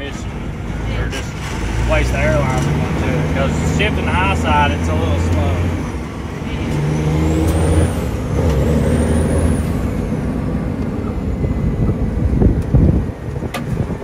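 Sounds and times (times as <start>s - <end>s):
truck diesel engine pulling under load: 0.0s - 14.0s.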